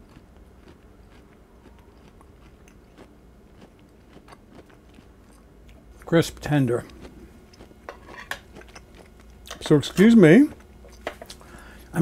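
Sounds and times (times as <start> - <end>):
man chewing soft crunches: 0.0 - 9.6, 10.5 - 12.0.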